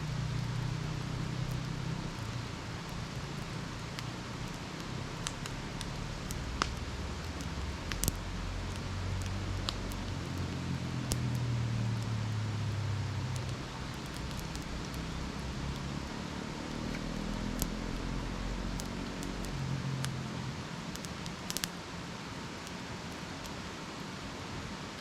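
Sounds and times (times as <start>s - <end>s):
low background hum: 0.0s - 24.3s
campfire crackling: 0.0s - 25.0s
sharp fire pops: 0.3s - 20.2s, 20.8s - 21.8s.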